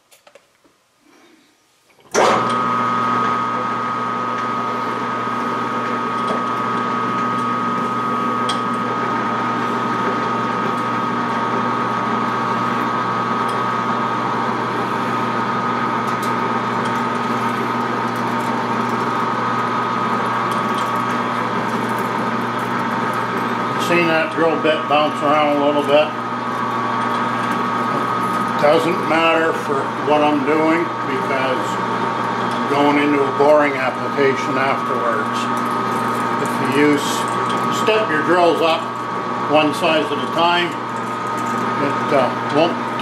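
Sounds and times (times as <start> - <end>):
metal lathe whining: 2.1 - 43.0.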